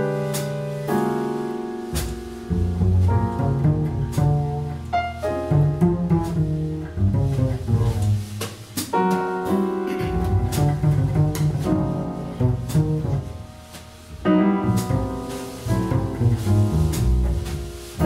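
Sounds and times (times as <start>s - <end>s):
piano chords: 0.0s - 18.0s
plucked double bass: 0.0s - 18.0s.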